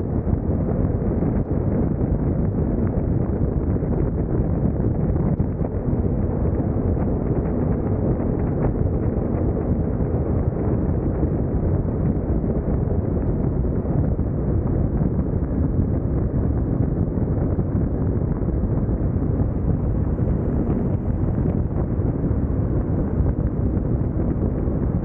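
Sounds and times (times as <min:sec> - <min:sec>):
wind rush on microphone: 0:00.0 - 0:25.0.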